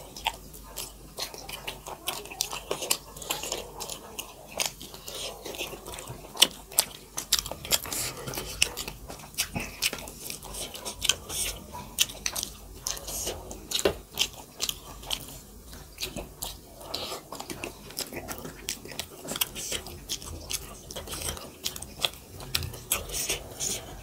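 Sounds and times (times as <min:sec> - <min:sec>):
chewing and lip smacking: 0:00.0 - 0:24.0.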